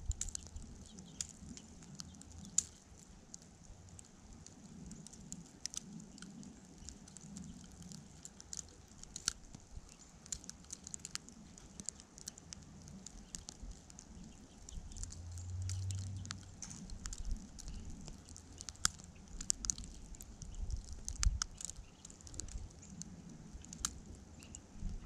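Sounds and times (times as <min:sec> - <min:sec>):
icy snow pattering: 0:00.0 - 0:25.0.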